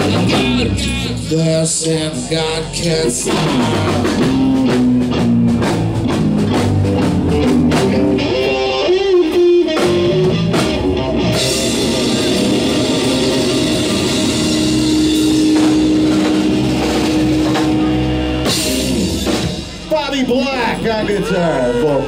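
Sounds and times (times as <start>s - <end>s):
electric guitar lead: 0.0s - 19.9s
drum kit: 0.0s - 21.6s.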